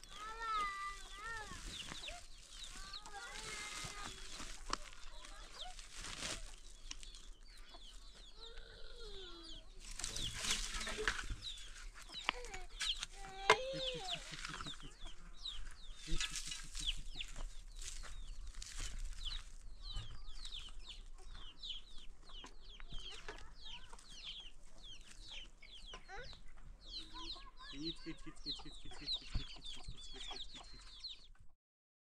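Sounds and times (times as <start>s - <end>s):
chickens clucking: 0.0s - 31.5s.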